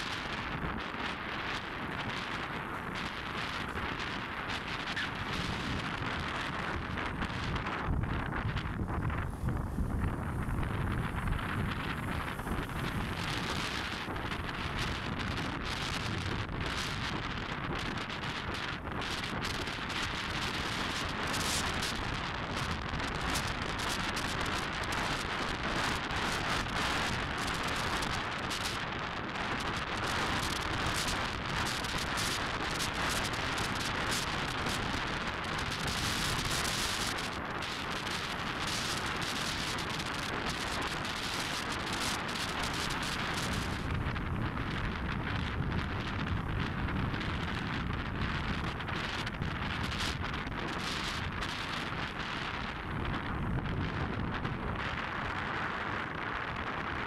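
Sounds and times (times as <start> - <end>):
road and traffic noise: 0.0 - 57.0
wind buffeting microphone: 0.0 - 57.0.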